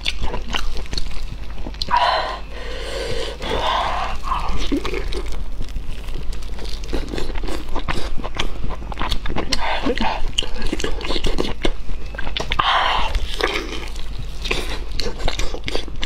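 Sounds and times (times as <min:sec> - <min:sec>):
biting and chewing food: 0:00.0 - 0:16.0.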